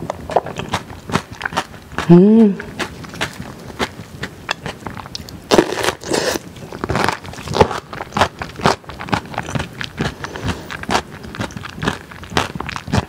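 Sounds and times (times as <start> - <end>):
crunchy wet chewing: 0.0 - 13.0.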